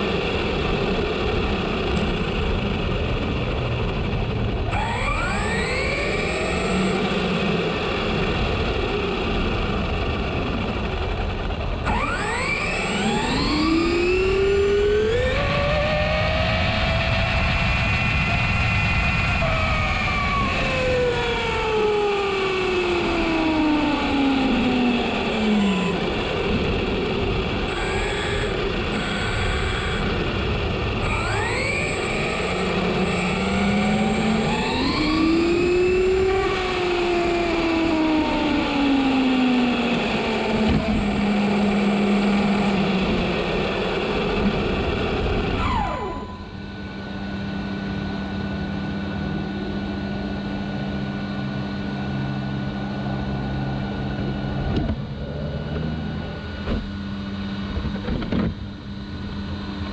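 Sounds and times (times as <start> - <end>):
electric motor whining: 0.0 - 54.6.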